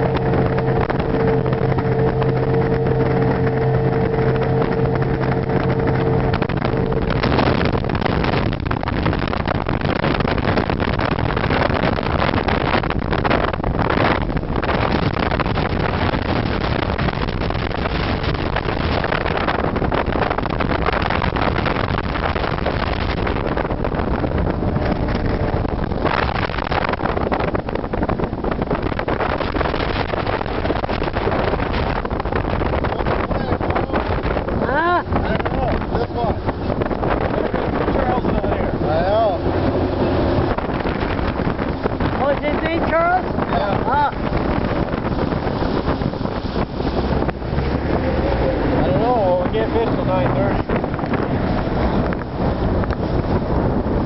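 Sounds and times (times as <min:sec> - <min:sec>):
motorboat engine and water rush: 0:00.0 - 0:54.0
wind on microphone: 0:00.0 - 0:54.0.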